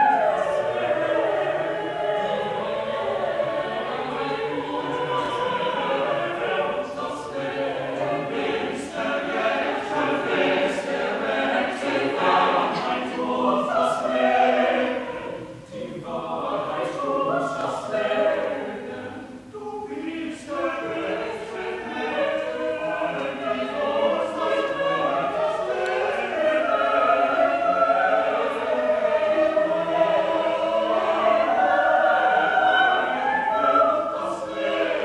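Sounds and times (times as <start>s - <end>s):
mixed choir singing: 0.0s - 35.0s.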